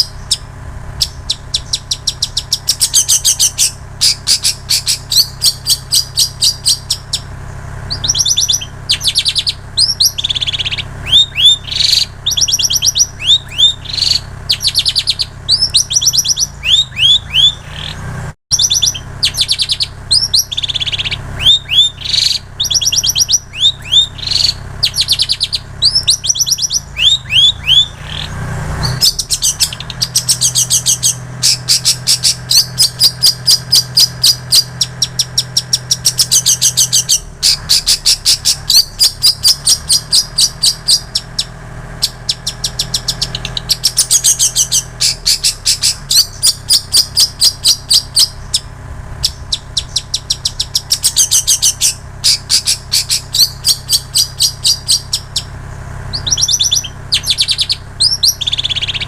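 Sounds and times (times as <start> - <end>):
shrike singing: 0.0 - 59.0.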